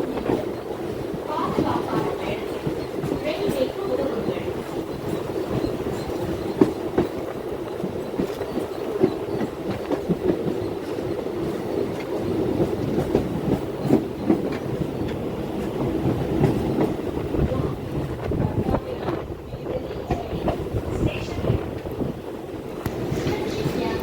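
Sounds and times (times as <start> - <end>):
train rumbling on track: 0.0 - 24.0
wheels clicking over rails: 0.0 - 24.0.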